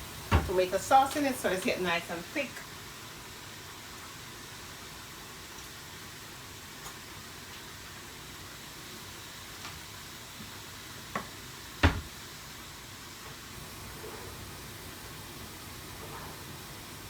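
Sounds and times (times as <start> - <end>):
cooking pot hissing: 0.0 - 17.0.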